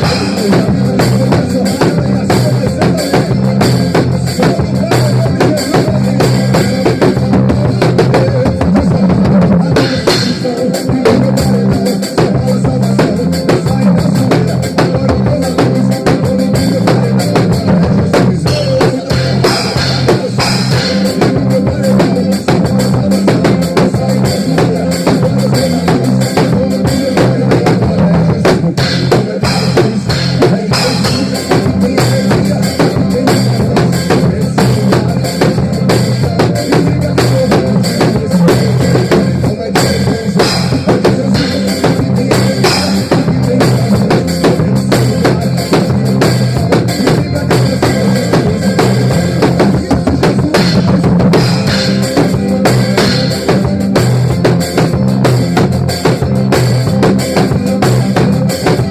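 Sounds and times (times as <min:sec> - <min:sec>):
drum kit played live: 0:00.0 - 0:58.9
recorded song over sound system: 0:00.0 - 0:58.9.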